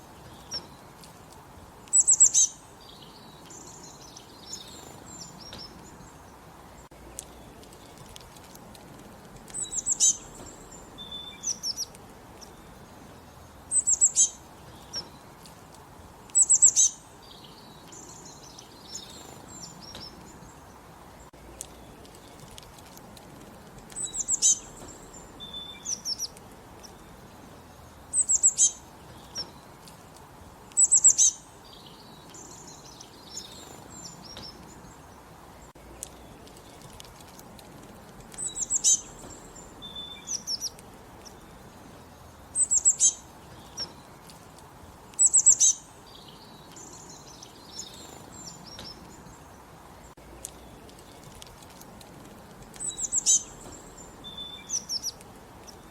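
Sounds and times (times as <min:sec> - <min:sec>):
soft background hiss: 0:00.0 - 0:55.9
songbirds singing: 0:00.0 - 0:55.9.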